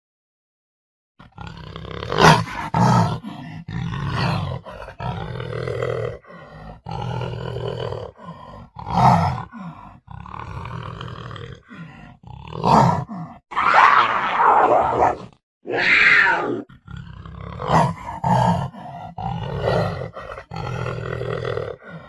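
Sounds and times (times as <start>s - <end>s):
panther growling and roaring: 1.2s - 22.0s.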